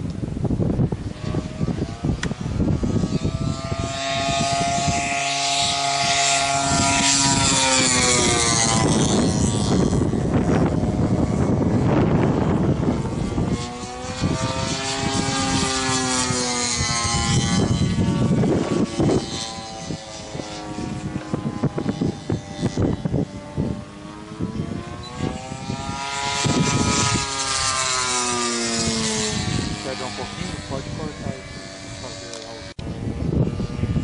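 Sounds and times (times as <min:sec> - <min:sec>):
model plane engine: 0:00.0 - 0:34.0.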